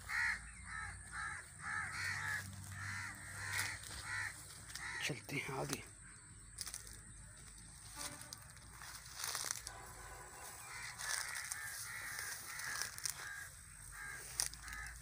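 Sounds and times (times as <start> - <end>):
brush rustling: 1.9 - 5.8, 6.6 - 15.0.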